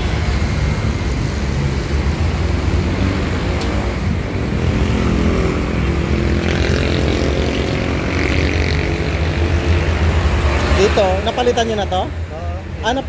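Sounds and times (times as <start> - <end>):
machine droning: 0.0 - 11.9.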